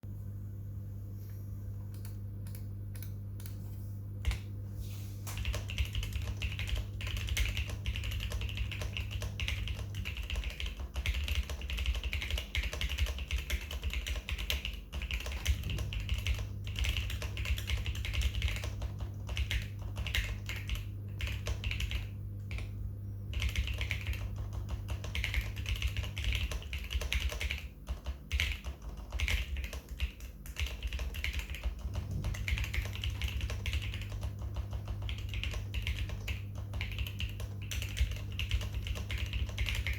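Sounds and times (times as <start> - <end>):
mechanical keyboard typing: 5.3 - 22.7, 23.3 - 39.9.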